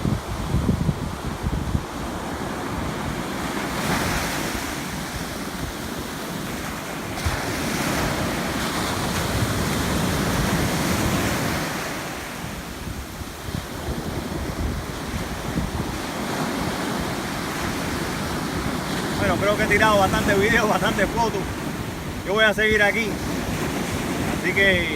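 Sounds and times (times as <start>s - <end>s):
ocean surf washing onto beach: 0.0s - 24.9s
wind rumbling on microphone: 0.0s - 24.9s.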